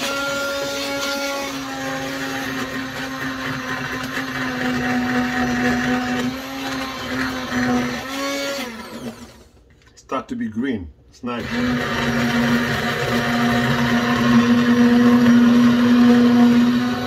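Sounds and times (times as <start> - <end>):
immersion blender motor running: 0.0 - 9.6, 11.4 - 17.0.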